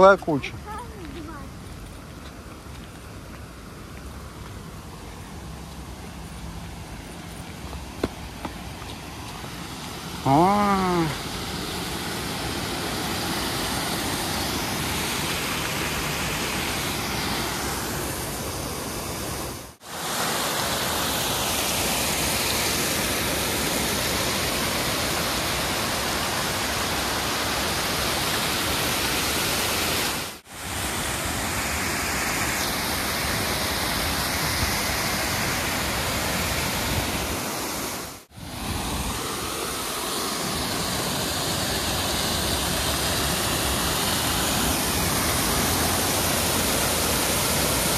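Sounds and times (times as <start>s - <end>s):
water rushing over waterfall: 2.6s - 47.9s.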